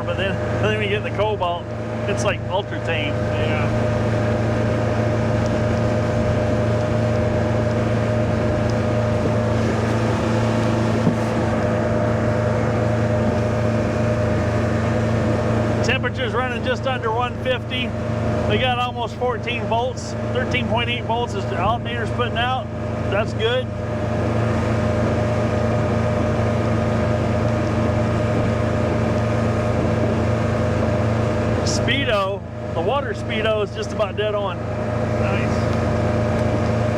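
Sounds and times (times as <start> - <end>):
boat engine droning: 0.0 - 36.9
water rushing against hull: 0.0 - 36.9
wind: 0.0 - 36.9.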